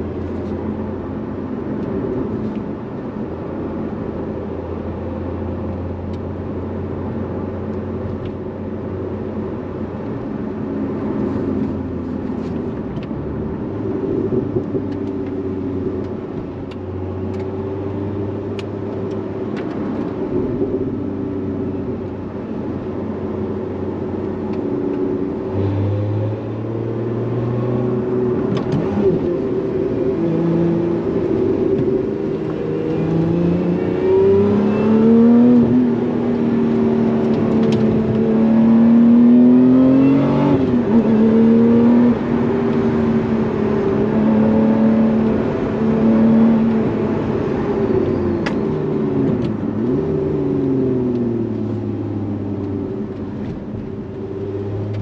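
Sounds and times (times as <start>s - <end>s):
car engine accelerating: 4.0s - 55.0s.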